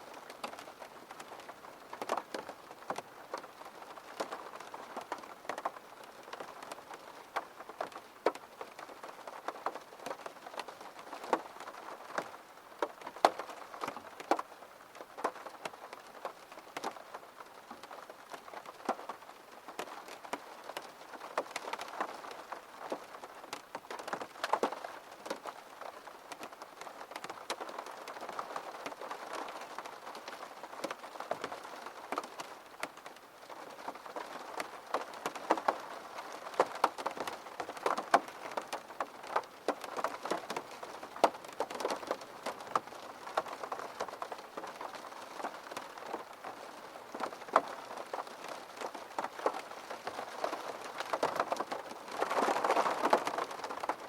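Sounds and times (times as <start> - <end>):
rain pattering on hard surface: 0.0 - 54.0.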